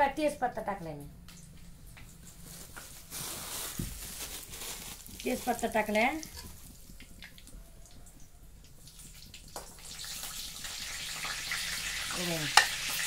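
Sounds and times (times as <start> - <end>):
leaves sizzling in hot oil: 2.2 - 13.0.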